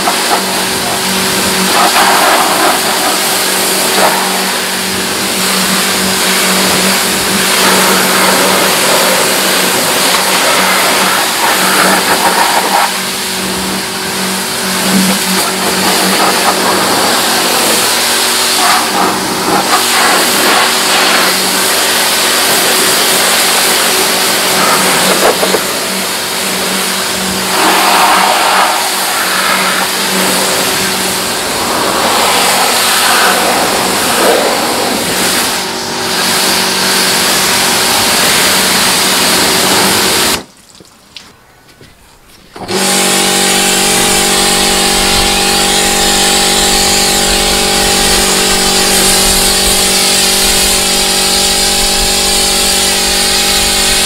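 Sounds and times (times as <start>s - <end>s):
water jet hissing on car: 0.0s - 40.5s, 42.7s - 54.0s
pressure washer motor hum: 0.0s - 40.6s, 42.5s - 54.0s.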